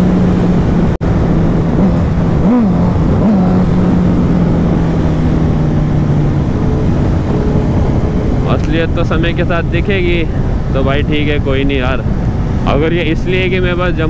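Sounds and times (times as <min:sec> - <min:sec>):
motorcycle engine cruising: 0:00.0 - 0:14.0
wind and road rush: 0:00.0 - 0:14.0.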